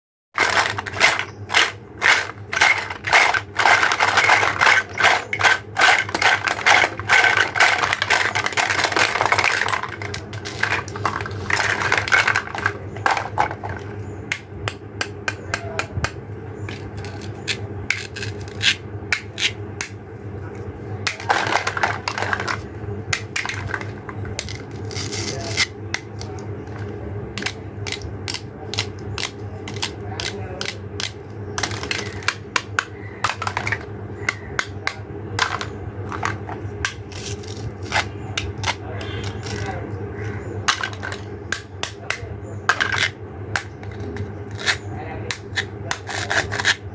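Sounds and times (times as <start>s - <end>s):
plastic toy pieces clicking and scraping: 0.4s - 14.4s, 16.7s - 20.0s, 21.0s - 40.0s, 40.6s - 46.9s.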